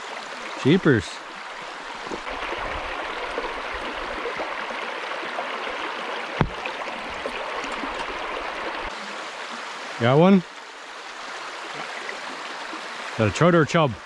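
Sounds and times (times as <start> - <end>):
stream rushing over stones: 0.0 - 14.0.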